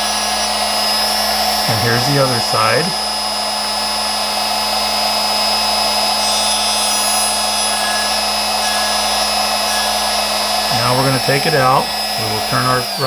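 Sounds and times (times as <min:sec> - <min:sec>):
router motor grinding steel: 0:00.0 - 0:13.0.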